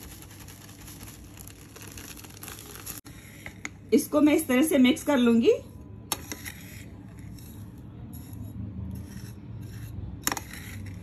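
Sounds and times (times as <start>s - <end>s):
dry mixture rubbed in a bowl: 0.0s - 3.5s, 5.1s - 11.0s.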